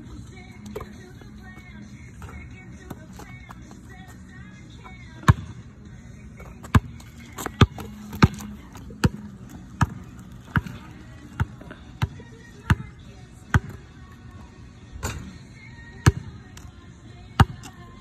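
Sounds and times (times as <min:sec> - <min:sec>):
basketball bouncing on asphalt: 0:00.0 - 0:14.0, 0:15.2 - 0:17.8.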